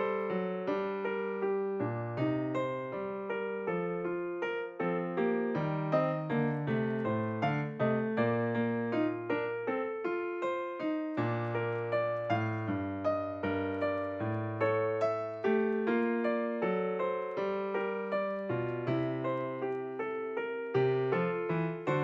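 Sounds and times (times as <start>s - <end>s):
solo piano piece: 0.0s - 22.0s.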